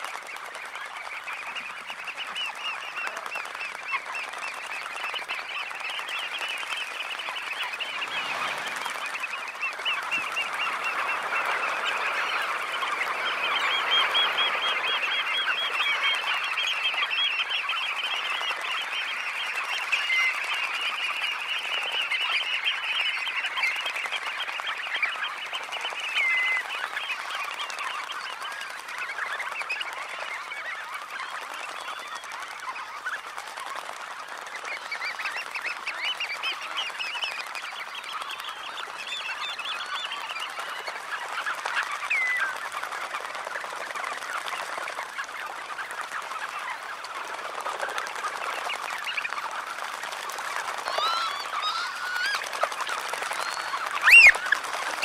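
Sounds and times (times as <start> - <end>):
flock of birds calling: 0.0 - 55.0.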